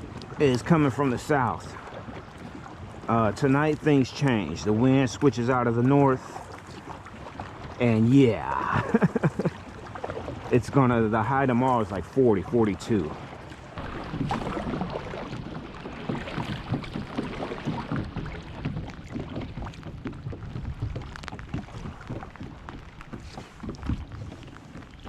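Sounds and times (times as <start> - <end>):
rain pattering on water and kayak: 0.0 - 25.0.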